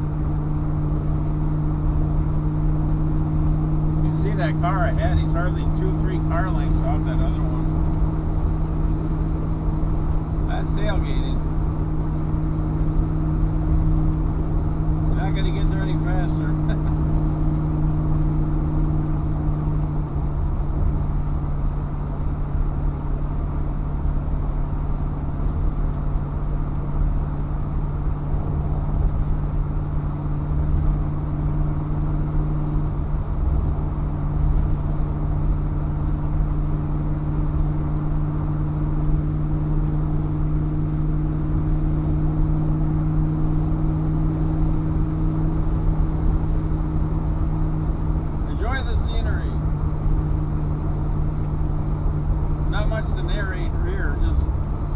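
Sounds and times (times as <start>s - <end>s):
engine and exhaust drone: 0.0s - 54.9s
road and tyre rumble: 0.0s - 54.9s.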